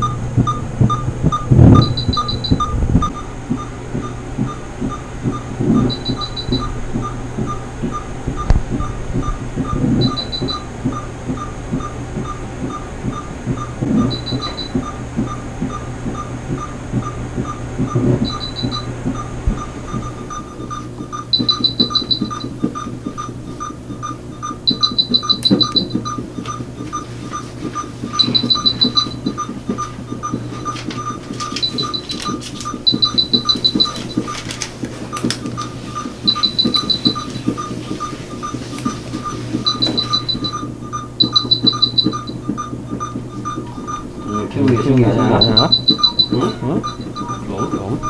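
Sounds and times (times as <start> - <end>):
higher-pitched beeps: 0.0 - 11.9, 14.0 - 15.0, 18.2 - 34.4, 35.9 - 48.0
patient monitor short beeps: 0.0 - 48.0
steady hum: 0.0 - 48.0.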